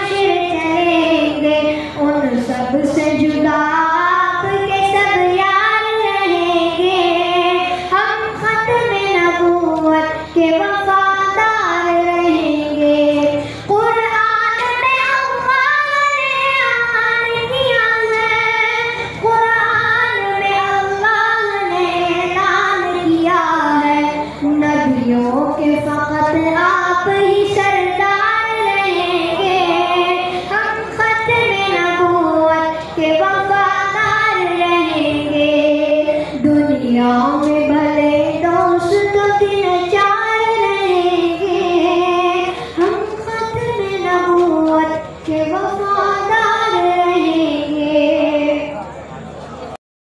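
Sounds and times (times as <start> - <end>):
boy singing: 0.0 - 48.8.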